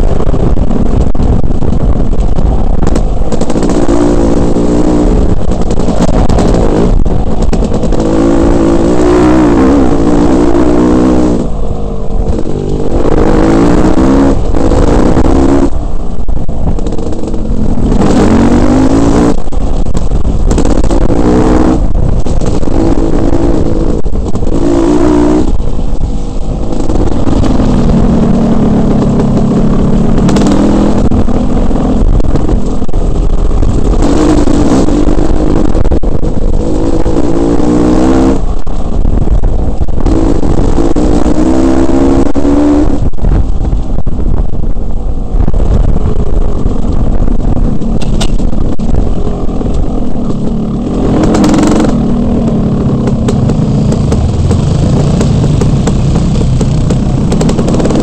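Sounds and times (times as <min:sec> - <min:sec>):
wind on microphone: 0:00.0 - 0:58.0
dirt bike engine revving: 0:02.4 - 0:43.4, 0:46.3 - 0:58.0.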